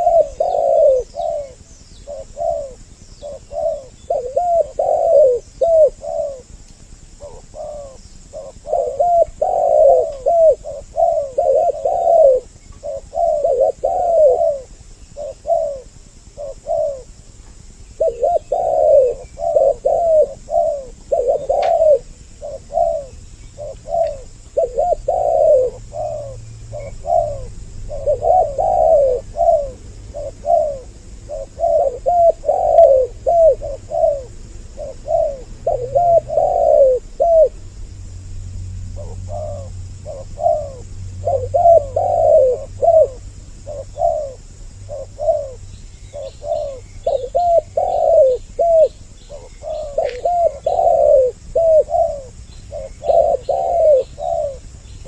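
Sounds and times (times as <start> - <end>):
doves cooing: 0.0 - 37.6, 38.9 - 55.0.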